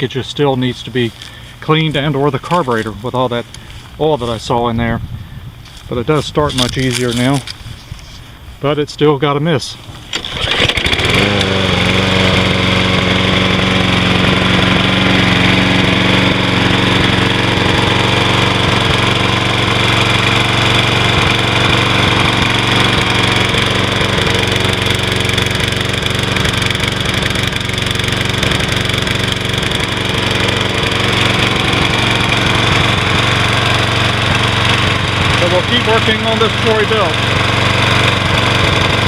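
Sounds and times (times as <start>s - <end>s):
lawn mower engine running: 0.0s - 8.6s, 9.8s - 39.0s.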